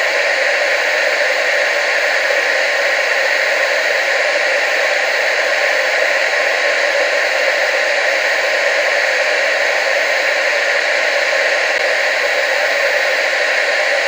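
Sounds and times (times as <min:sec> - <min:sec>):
tv static hiss: 0:00.0 - 0:14.0.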